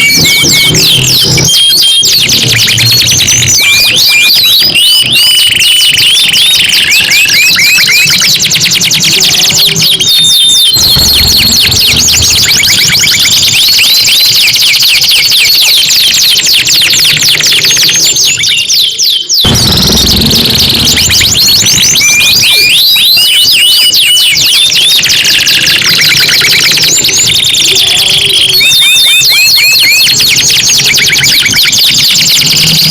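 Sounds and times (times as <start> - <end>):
canaries singing in fast trills: 0.0 - 32.9.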